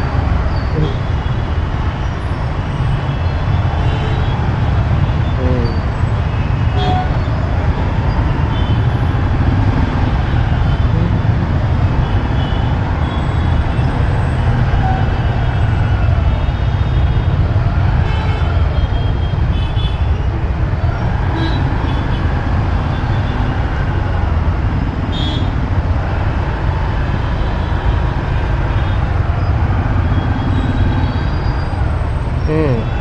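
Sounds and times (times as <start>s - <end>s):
motorbike engine and road noise: 0.0s - 33.0s.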